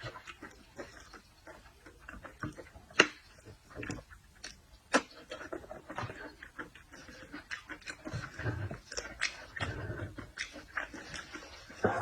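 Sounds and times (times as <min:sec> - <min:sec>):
chewing seafood: 0:00.0 - 0:12.0.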